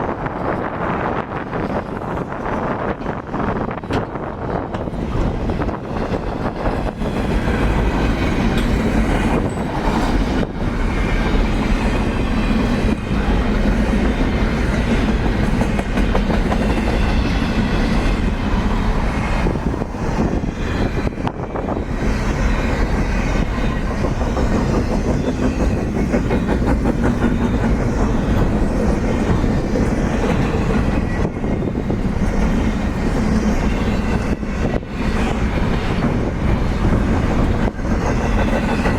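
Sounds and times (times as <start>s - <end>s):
train rumbling past: 0.0s - 38.9s
wheels clacking over rail joints: 3.8s - 20.2s, 20.9s - 38.9s.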